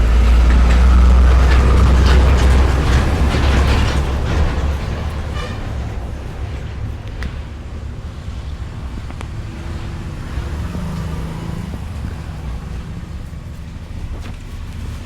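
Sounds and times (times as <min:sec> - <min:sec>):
low engine hum: 0:00.0 - 0:15.0
road traffic rumble: 0:00.0 - 0:15.0.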